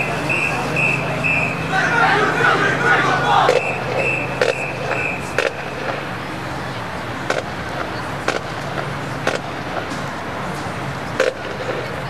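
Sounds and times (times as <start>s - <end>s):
stadium crowd murmur: 0.0s - 12.0s.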